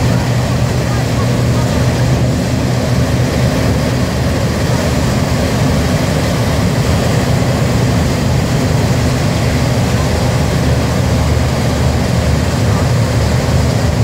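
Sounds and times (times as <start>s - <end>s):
hovercraft engines droning: 0.0s - 14.0s.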